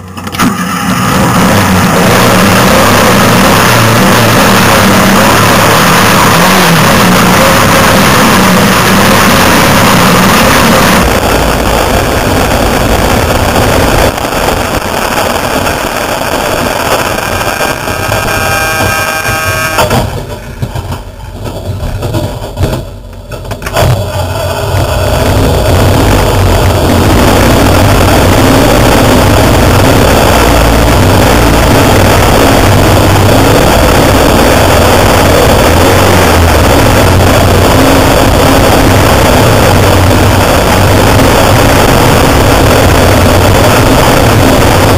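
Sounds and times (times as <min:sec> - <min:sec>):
heavy rushing noise: 0:00.0 - 0:44.9
race vehicle engine running loud: 0:00.0 - 0:44.9
steady tones: 0:00.0 - 0:44.9.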